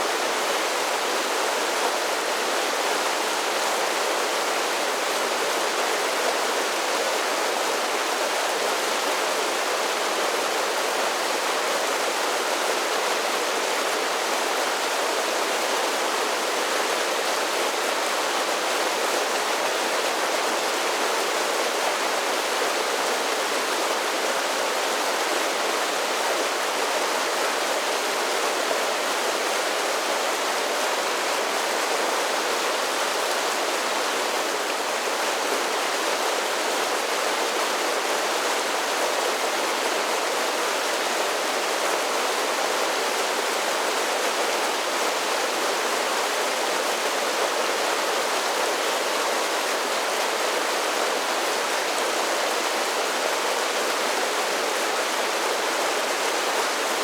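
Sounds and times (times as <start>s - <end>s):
creek water cascading: 0.0s - 57.0s.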